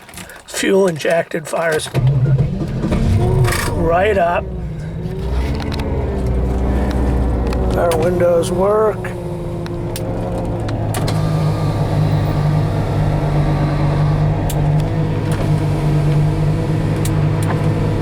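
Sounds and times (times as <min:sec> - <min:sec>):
car engine running: 0:01.8 - 0:18.0.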